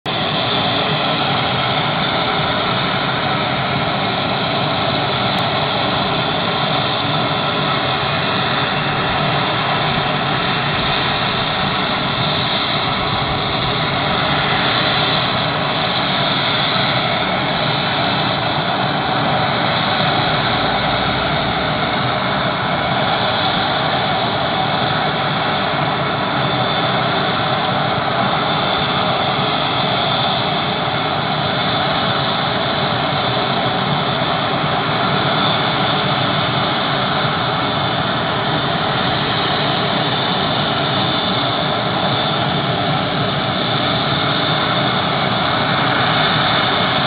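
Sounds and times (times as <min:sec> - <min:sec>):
aircraft engine rumble and whine: 0:00.0 - 0:47.0.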